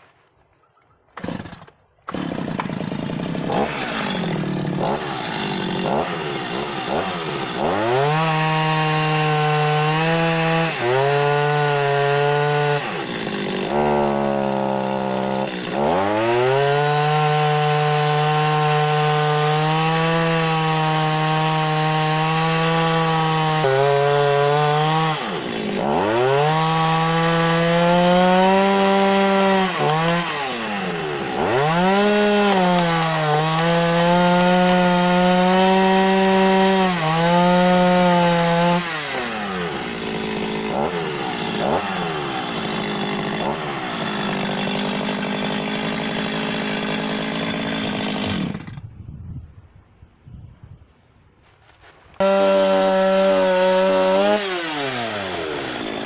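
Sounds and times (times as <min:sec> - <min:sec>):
chainsaw cutting log: 0:01.2 - 0:48.9, 0:52.2 - 0:56.0.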